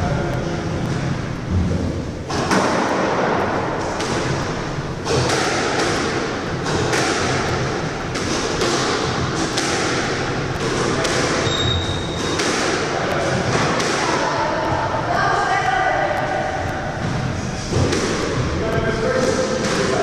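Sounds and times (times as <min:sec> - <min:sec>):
squash ball hits: 0:02.3 - 0:14.9, 0:15.5 - 0:20.0.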